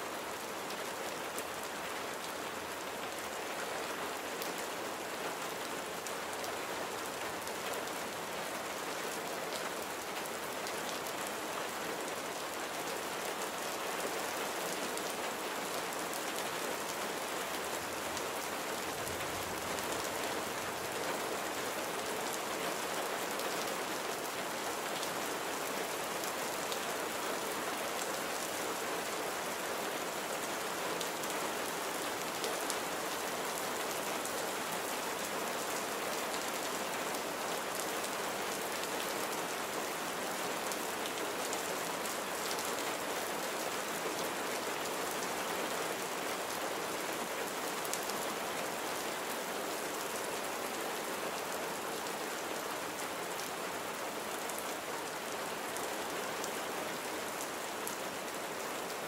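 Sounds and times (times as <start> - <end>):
rain pattering: 0.2 - 59.0.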